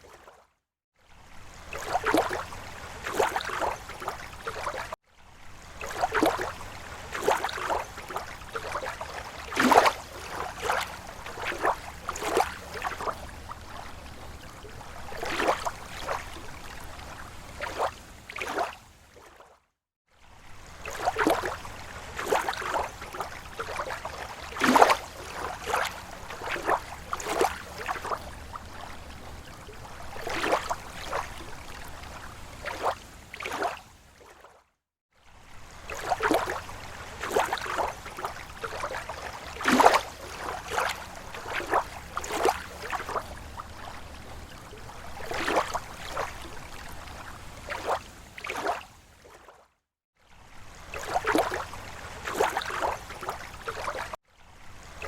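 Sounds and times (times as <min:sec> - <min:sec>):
small waves lapping on shore: 0:00.0 - 0:55.0.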